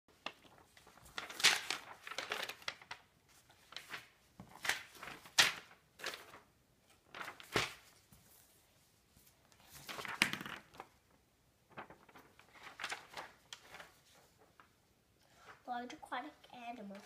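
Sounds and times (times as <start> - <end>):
paper rustling: 0.1 - 16.0, 16.7 - 17.0.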